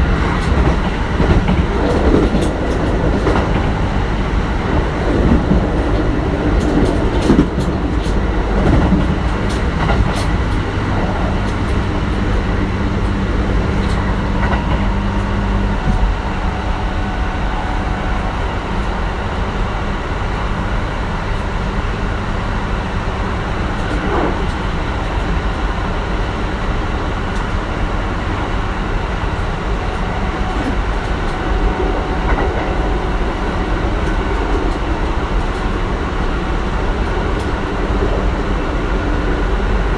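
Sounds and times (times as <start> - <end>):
rail joint clicks: 0.0 - 39.9
train wheels rumbling on rails: 0.0 - 39.9.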